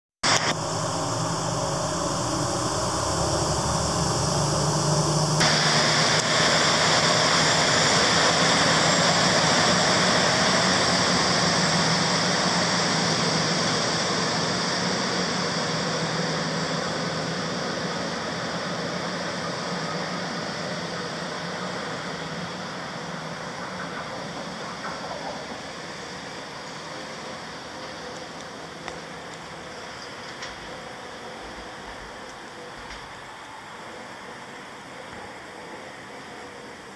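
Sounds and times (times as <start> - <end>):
diesel train pulling out: 0.2 - 36.9.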